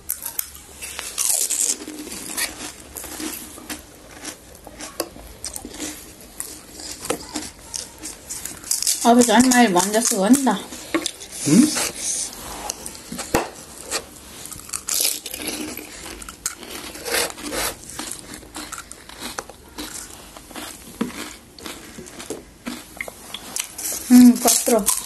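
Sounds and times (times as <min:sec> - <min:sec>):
crunching crisp food: 0:00.0 - 0:25.0.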